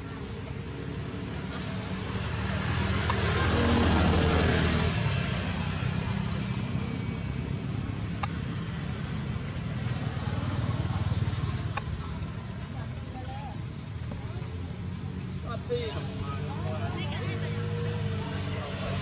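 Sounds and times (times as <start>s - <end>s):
vehicle engine passing: 0.4s - 12.8s, 15.6s - 19.0s.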